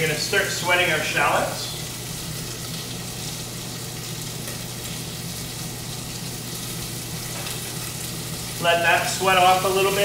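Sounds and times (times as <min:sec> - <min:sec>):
shallots sizzling in hot fat: 0:00.0 - 0:10.0.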